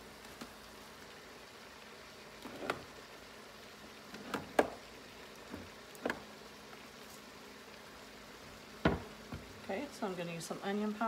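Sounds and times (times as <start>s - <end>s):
meat sizzling: 0.0s - 11.0s.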